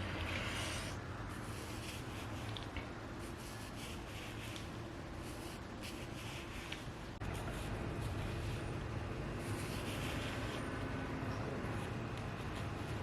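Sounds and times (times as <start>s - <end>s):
low steady hum: 0.0s - 13.0s
faint rustling and handling: 0.2s - 10.7s.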